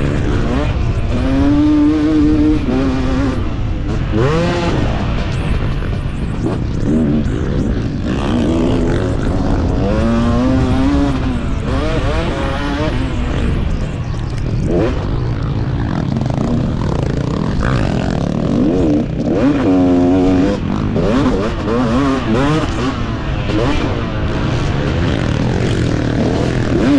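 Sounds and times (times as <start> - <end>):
motocross bike engine revving: 0.0 - 26.9.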